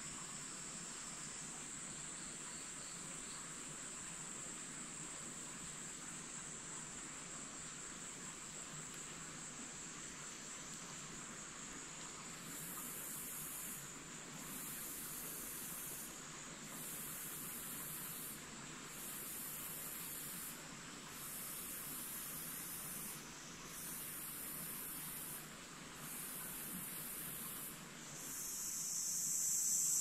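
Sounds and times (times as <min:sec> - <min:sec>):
insects buzzing trill: 0:00.0 - 0:30.0
soft hiss: 0:00.0 - 0:30.0.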